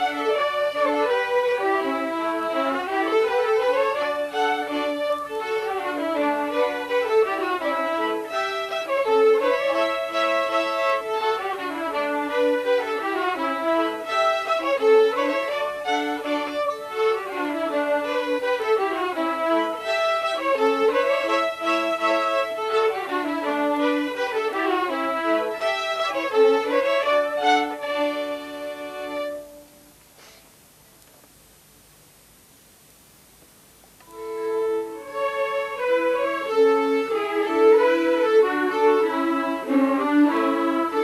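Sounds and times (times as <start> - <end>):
fiddlers playing folk tune: 0.0 - 29.9, 34.0 - 41.0.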